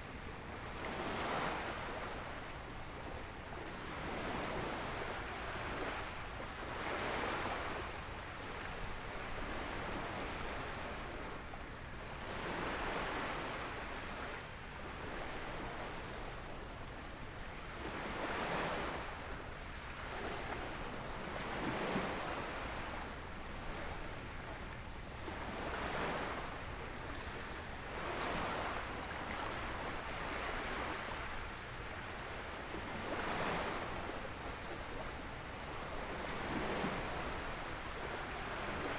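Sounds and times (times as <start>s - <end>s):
small waves breaking on beach: 0.0s - 38.9s.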